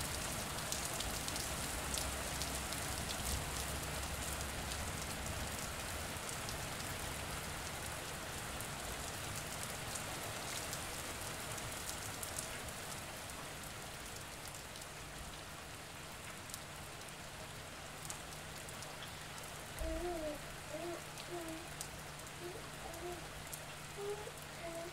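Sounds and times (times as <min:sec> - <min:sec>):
crackling drips: 0:00.0 - 0:24.9.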